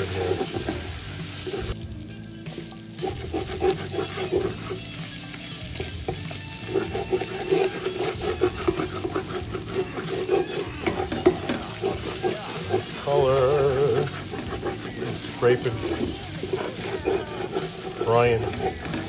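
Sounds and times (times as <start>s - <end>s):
wooden spoon scraping a pot: 0.0s - 1.8s, 2.6s - 19.0s
meat frying and crackling: 0.0s - 19.0s.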